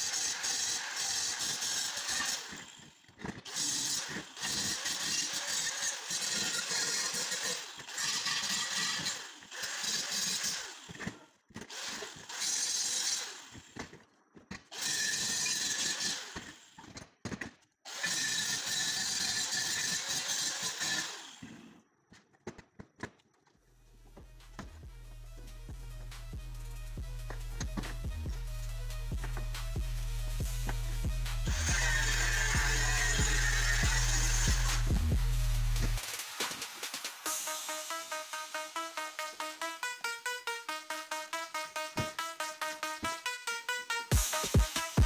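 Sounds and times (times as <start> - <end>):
angle grinder grinding steel: 0.0 - 14.0, 14.6 - 17.0, 17.9 - 21.8, 23.9 - 40.6.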